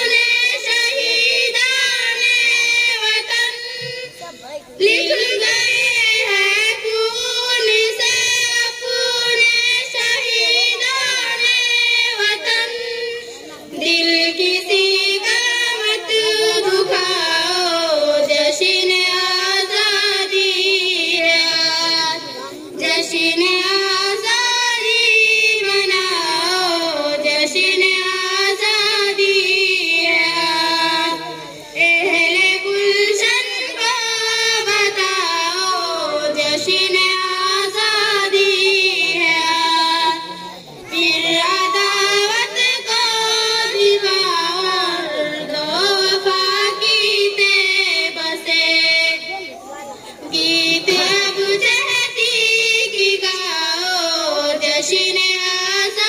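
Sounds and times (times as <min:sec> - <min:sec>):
girls singing into microphones: 0:00.0 - 0:56.0.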